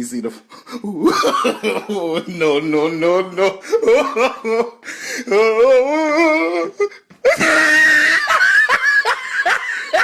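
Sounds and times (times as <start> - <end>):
man laughing hysterically: 0.8 - 10.0.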